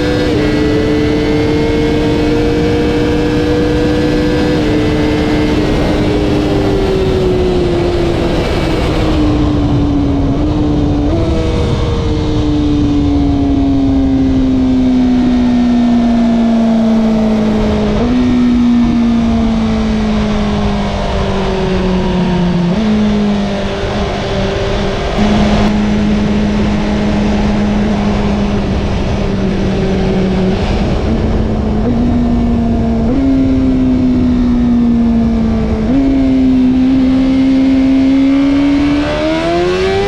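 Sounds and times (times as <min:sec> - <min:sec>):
motorcycle engine downshifting: 0:00.0 - 0:40.0.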